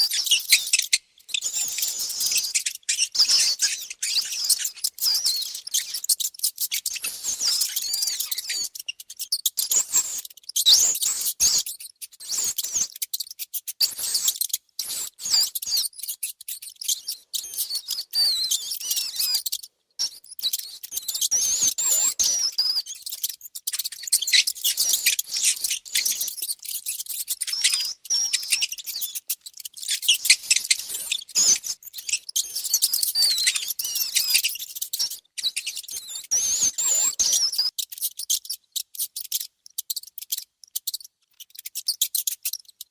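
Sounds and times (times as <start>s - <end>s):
mice squeaking: 0.0s - 42.9s.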